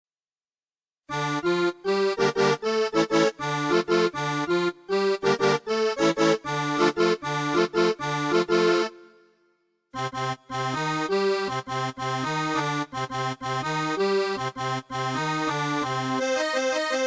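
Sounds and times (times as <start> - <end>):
keyboard playing rhythmic chords: 1.1 - 17.0.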